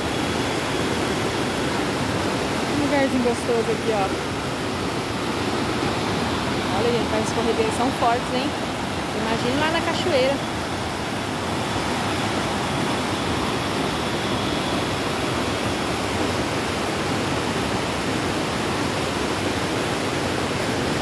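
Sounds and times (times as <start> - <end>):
rapids rushing over boulders: 0.0 - 21.0.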